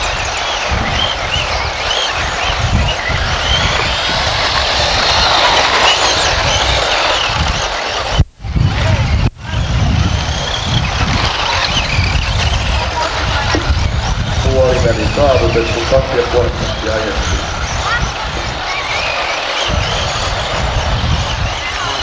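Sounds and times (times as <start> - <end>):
electric motors whining: 0.0 - 22.0.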